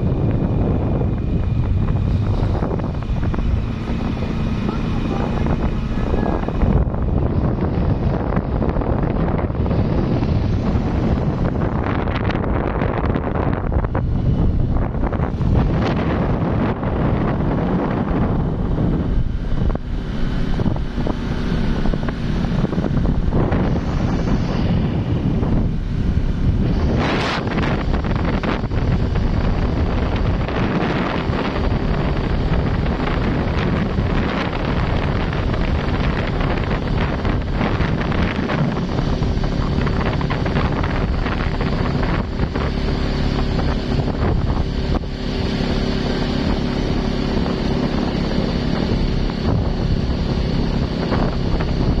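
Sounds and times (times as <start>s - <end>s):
vehicle engine and road noise: 0.0s - 52.0s
wind buffeting microphone: 0.0s - 52.0s.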